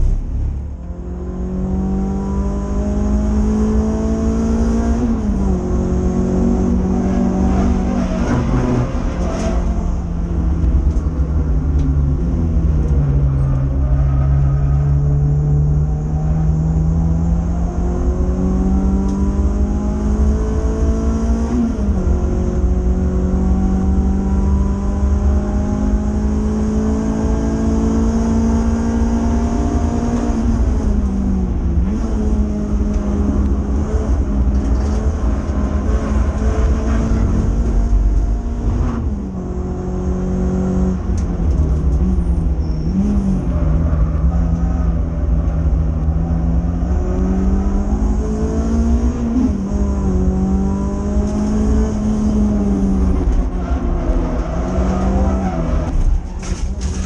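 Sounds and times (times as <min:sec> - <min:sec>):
car engine revving: 0:00.0 - 0:57.0
road and wind roar: 0:00.0 - 0:57.0.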